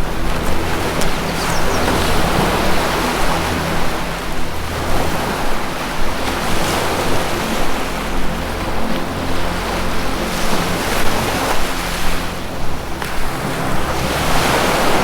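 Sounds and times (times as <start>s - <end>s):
music drone of low notes: 0.0s - 15.0s
ocean surf washing: 0.0s - 15.0s.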